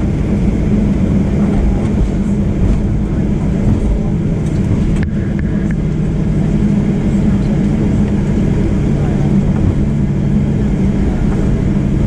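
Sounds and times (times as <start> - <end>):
airplane cabin rumble: 0.0 - 12.0
low engine hum: 0.0 - 12.0.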